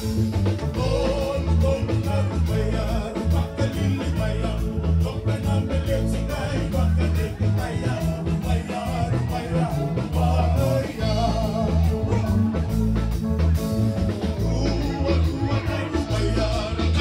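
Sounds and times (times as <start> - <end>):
drum kit beat: 0.0 - 17.0
heavy bass line: 0.0 - 17.0
keyboard: 0.0 - 17.0
man singing into microphone: 0.6 - 12.8, 14.2 - 17.0.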